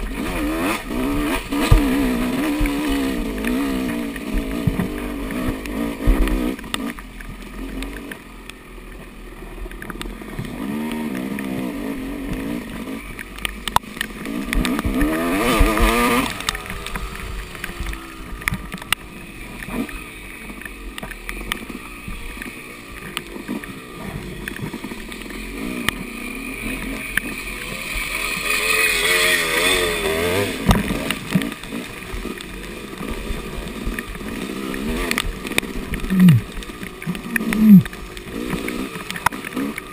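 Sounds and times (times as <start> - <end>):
clicks and knocks from bike: 0.0 - 26.1, 26.7 - 39.9
dirt bike engine revving: 0.0 - 39.9.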